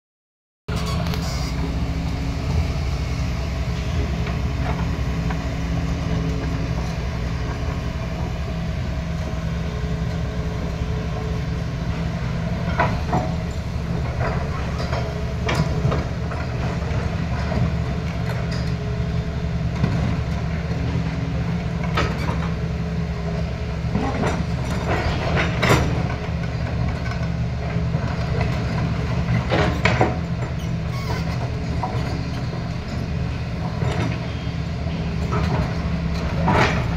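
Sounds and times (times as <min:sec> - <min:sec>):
excavator diesel engines: 0:00.7 - 0:36.9.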